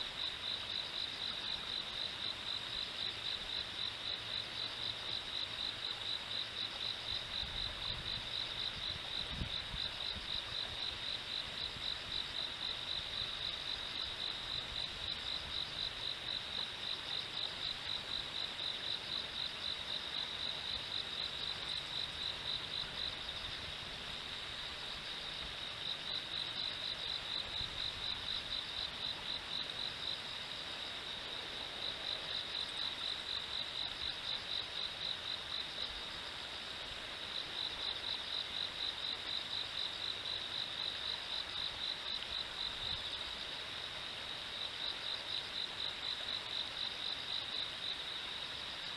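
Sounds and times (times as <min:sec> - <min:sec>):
cricket chirping: 0:00.0 - 0:48.9
flowing river water: 0:00.0 - 0:48.9.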